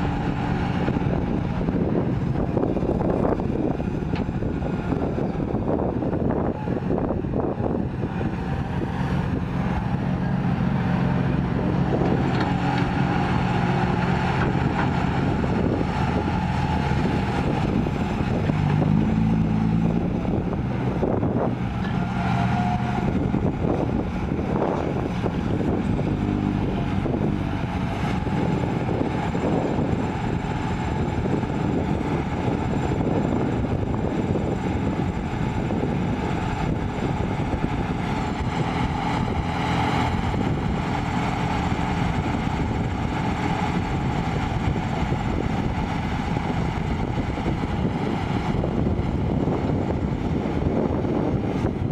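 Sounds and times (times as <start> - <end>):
excavator diesel engine under load: 0.0 - 51.9.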